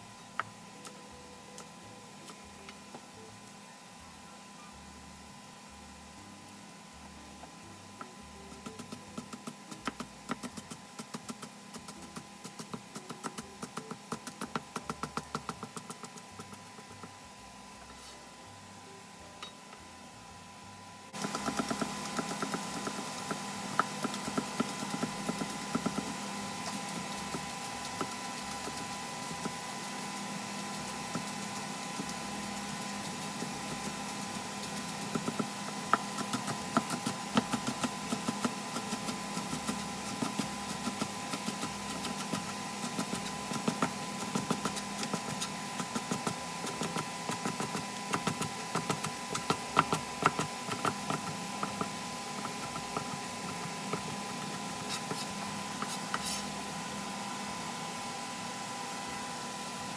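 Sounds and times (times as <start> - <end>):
kitchen exhaust fan humming: 0.0 - 59.9.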